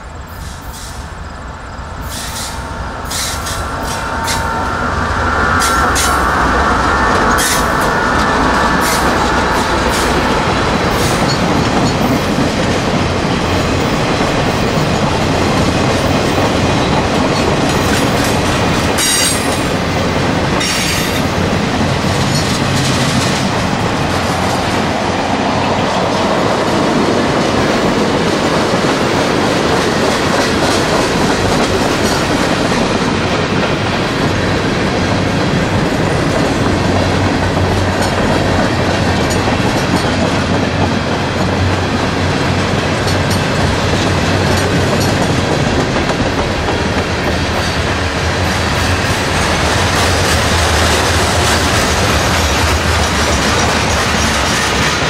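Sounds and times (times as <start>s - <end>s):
train wheels clacking on rail joints: 7.0s - 55.0s.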